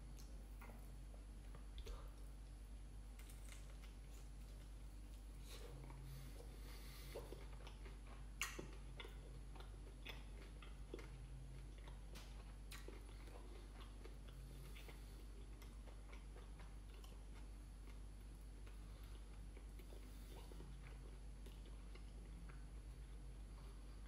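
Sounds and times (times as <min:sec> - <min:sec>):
person chewing crunchy food: 0:03.1 - 0:24.0.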